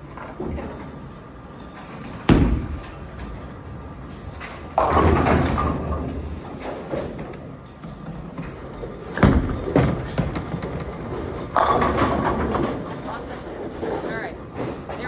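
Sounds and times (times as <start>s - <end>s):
bowling ball rolling rumble: 2.1s - 15.0s.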